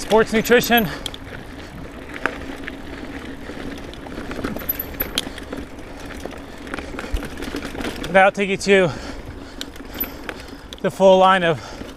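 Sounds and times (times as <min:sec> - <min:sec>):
chain and frame rattling: 0:00.0 - 0:11.8
bike tyre and trail noise: 0:00.0 - 0:11.9.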